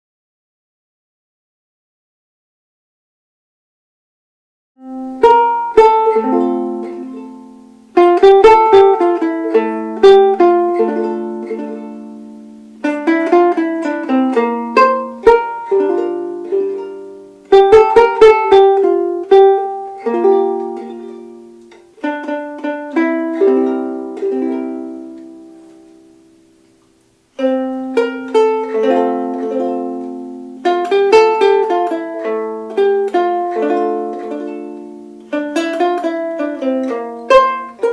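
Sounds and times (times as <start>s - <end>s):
ukulele playing: 4.8s - 37.9s.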